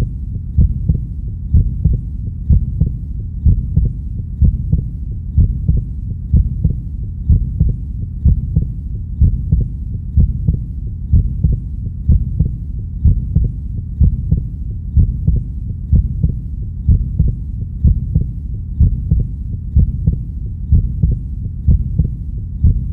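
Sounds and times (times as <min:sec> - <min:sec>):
constant low hum: 0:00.0 - 0:22.9
heartbeat thumps: 0:00.0 - 0:22.9.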